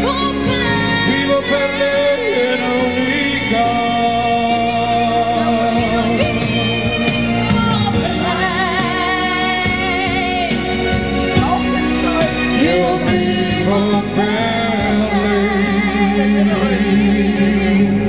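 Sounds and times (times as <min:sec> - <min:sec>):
woman singing: 0:00.0 - 0:11.1, 0:12.6 - 0:18.0
live band playing: 0:00.0 - 0:18.0.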